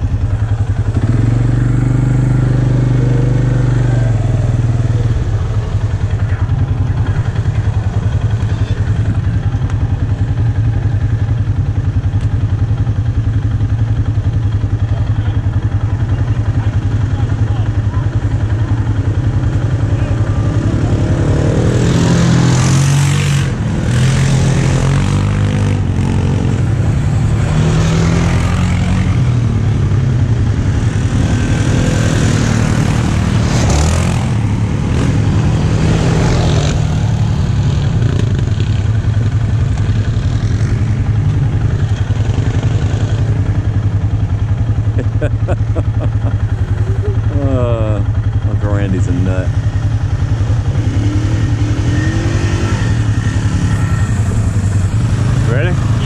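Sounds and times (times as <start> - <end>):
atv engine idling: 0.0 - 56.0
atv engines revving: 0.0 - 56.0.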